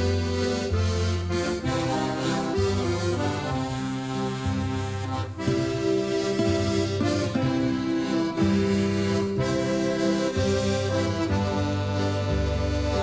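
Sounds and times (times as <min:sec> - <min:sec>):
instrumental music with chords: 0:00.0 - 0:13.0.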